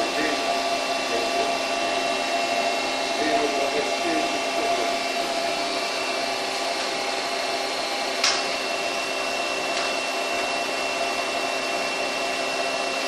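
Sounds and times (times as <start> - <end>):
lathe machine hum: 0.0 - 13.0
thin high whine: 0.0 - 13.0.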